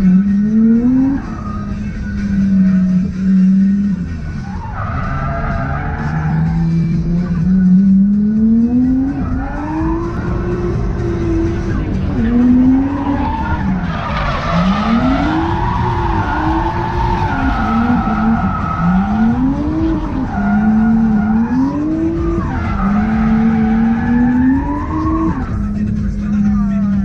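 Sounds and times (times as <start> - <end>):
car engine revving: 0.0 - 27.0
tyres squealing: 0.0 - 27.0.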